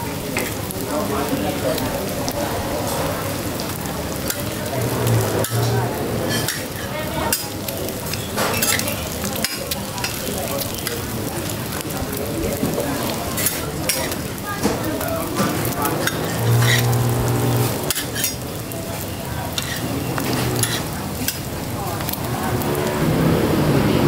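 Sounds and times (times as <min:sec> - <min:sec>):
food sizzling on griddle: 0:00.0 - 0:23.9.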